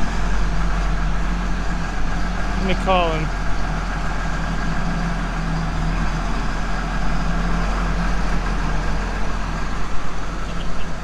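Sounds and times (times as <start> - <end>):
vehicle engine running steadily: 0.0 - 11.0.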